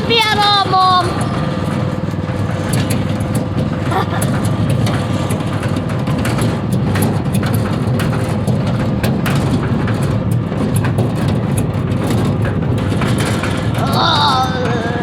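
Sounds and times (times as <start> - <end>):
short rattles and knocks: 0.0 - 15.0
small vehicle engine running: 0.0 - 15.0.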